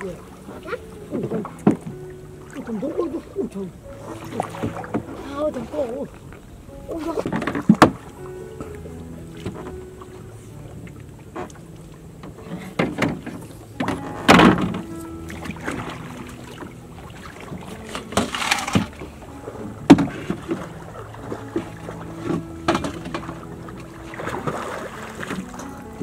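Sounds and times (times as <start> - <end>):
water splashing: 0.0 - 26.0.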